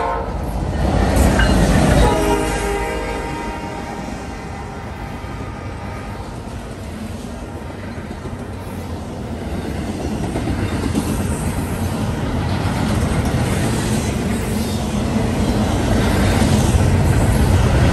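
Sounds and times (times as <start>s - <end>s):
freight train wheels rumbling: 0.0s - 17.9s.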